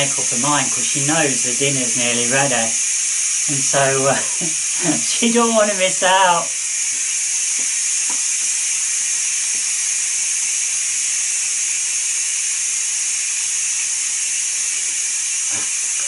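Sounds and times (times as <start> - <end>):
pressure cooker steam hissing: 0.0 - 16.0.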